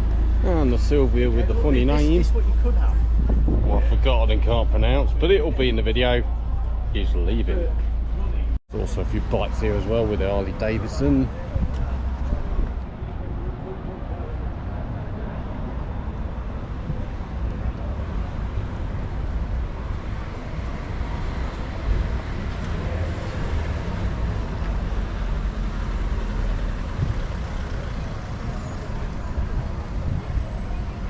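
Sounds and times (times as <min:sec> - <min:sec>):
street background noise: 0:00.0 - 0:31.0
vehicle engines rumbling: 0:00.0 - 0:31.0.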